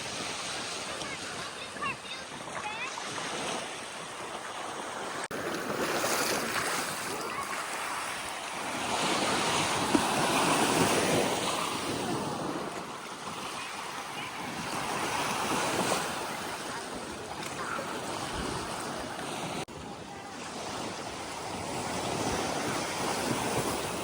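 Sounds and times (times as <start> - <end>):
ocean waves washing onto beach: 0.0 - 24.0.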